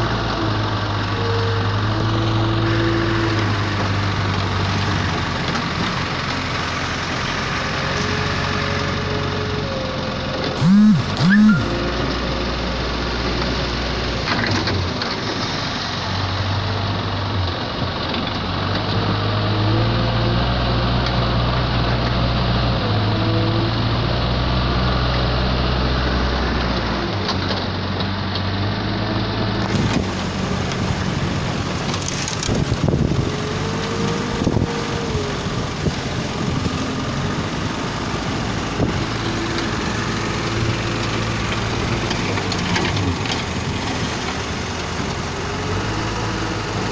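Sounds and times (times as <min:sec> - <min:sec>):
diesel engine revving: 0:00.0 - 0:46.9.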